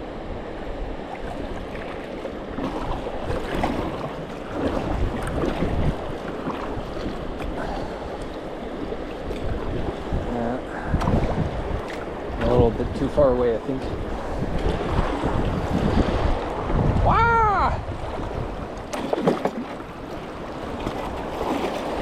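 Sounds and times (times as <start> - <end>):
rushing river water: 0.0 - 22.0
water splashes: 0.9 - 22.0
wind noise on microphone: 2.6 - 8.2, 8.8 - 22.0.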